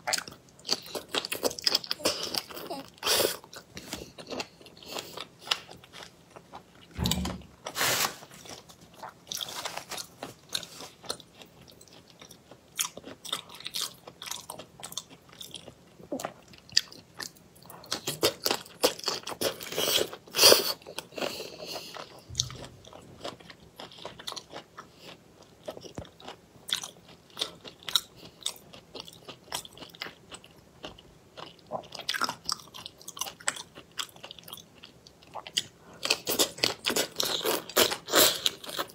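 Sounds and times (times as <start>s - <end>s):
chewing and crunching: 0.0s - 7.0s, 8.4s - 38.9s.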